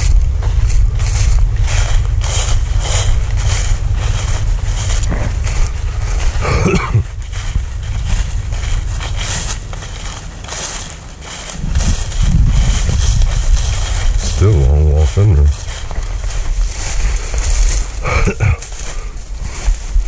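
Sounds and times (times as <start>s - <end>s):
footsteps crunching dry leaves: 0.0s - 20.0s
wind buffeting microphone: 0.0s - 20.0s.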